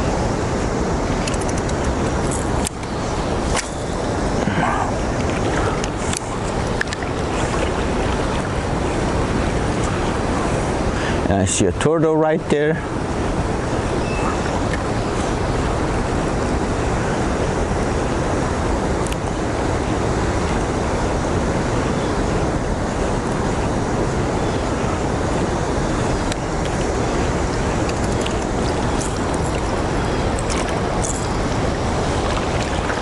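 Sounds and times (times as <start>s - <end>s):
river current rushing: 0.0s - 33.0s.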